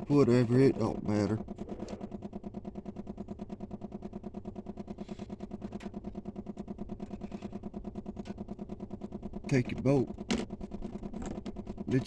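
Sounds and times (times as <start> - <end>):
engine running with fast pulse: 0.0 - 12.0.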